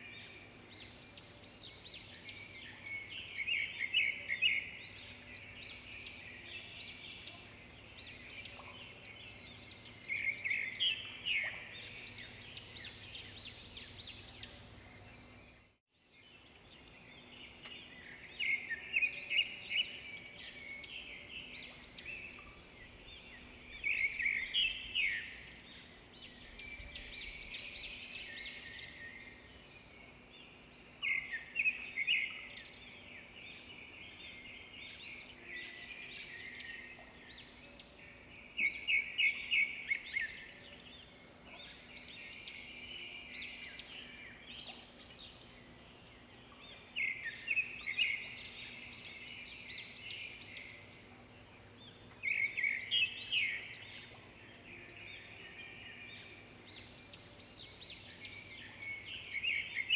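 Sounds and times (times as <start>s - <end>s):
faint background noise: 0.0s - 59.9s
songbirds chirping: 0.0s - 59.9s.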